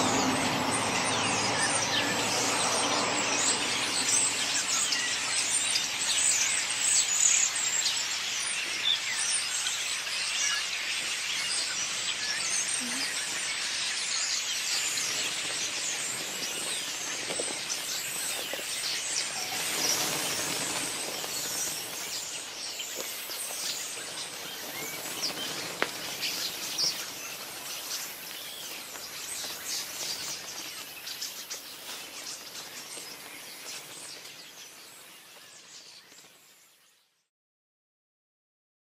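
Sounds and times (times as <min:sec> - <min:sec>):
birds chirping and chattering: 0:00.0 - 0:36.6.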